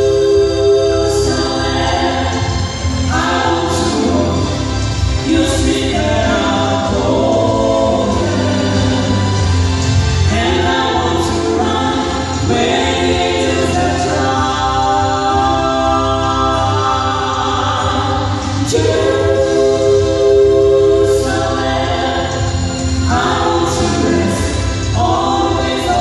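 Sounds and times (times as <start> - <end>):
low instrumental accompaniment: 0.0 - 26.0
vocal trio singing gospel in harmony: 0.0 - 26.0.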